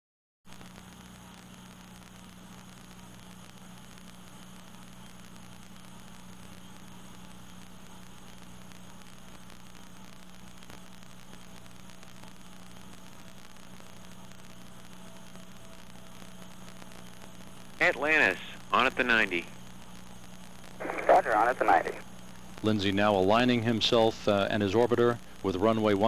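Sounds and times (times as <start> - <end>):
low electrical hum: 0.5 - 26.0
steady hiss: 0.5 - 26.0.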